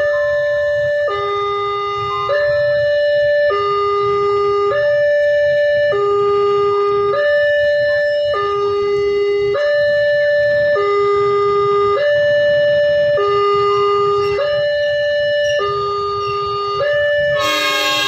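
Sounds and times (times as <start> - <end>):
level crossing two-tone alarm: 0.0 - 18.0.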